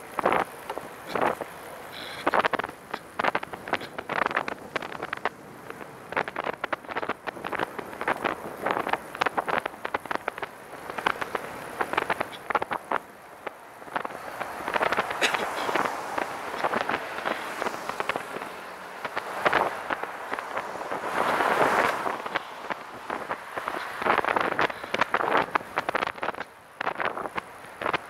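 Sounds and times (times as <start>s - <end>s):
passing traffic: 0.0s - 28.0s
rapid crackling clicks: 0.0s - 28.0s
road and wind noise: 0.0s - 28.0s.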